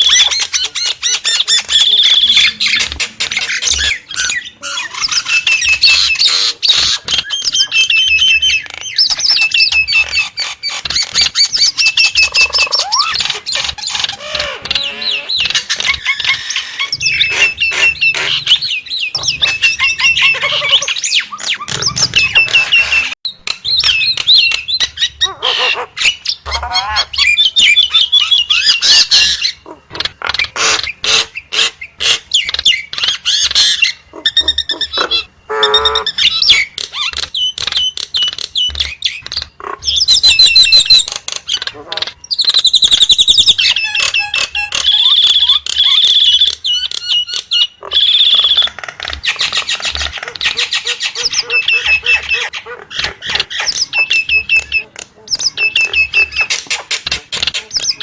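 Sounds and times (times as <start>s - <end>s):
myna bird calling: 0.0s - 58.0s.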